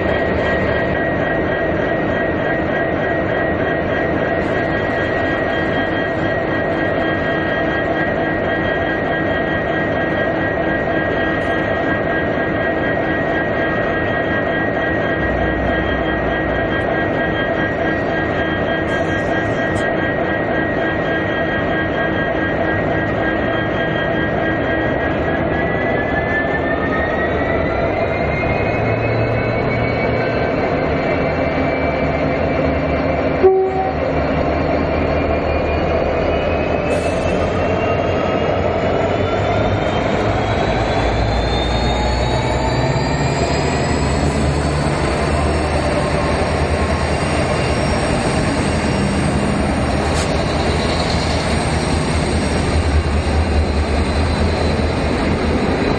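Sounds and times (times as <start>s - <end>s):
diesel locomotive engines rumbling: 0.0s - 55.9s
rising engine whine: 0.0s - 55.9s.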